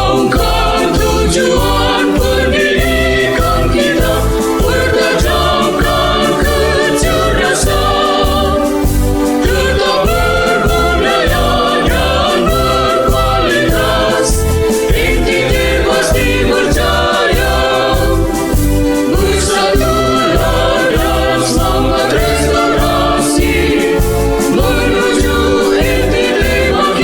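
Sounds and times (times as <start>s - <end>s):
accompaniment with low beat: 0.0s - 27.0s
children's choir singing: 0.0s - 27.0s.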